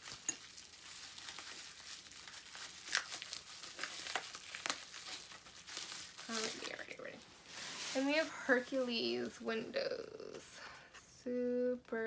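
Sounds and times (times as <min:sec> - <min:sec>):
packaging crinkling by hand: 0:00.0 - 0:10.4.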